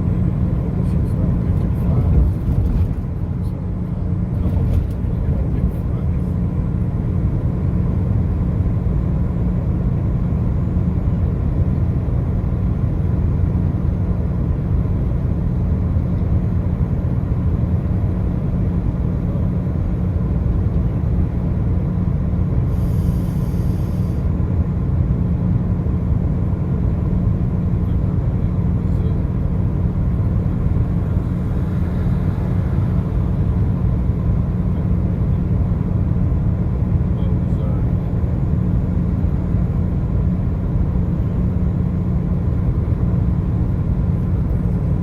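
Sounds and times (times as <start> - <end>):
car tyres and engine rumble: 0.0 - 45.0.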